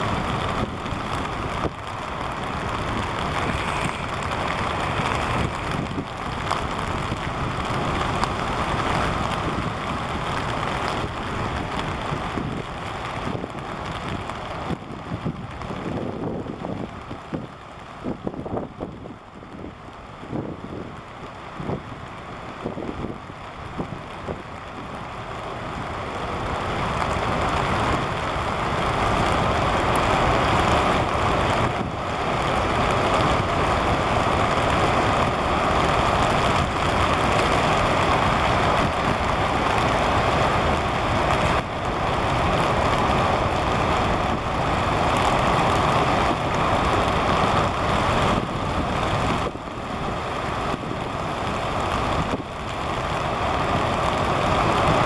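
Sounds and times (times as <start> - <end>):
rain: 0.0 - 55.0
wind gusting over microphone: 0.0 - 55.0.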